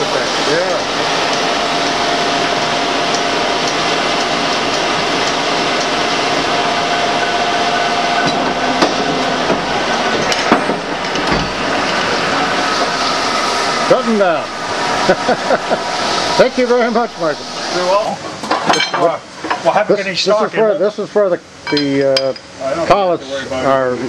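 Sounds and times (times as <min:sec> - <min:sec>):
lathe mechanical din: 0:00.0 - 0:19.6
steady machine whine: 0:00.0 - 0:21.5.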